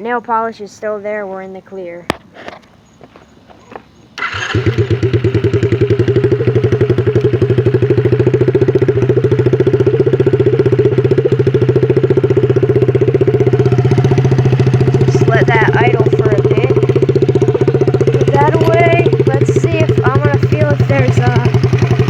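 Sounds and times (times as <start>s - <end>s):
quad engine starting and idling: 4.2s - 22.0s.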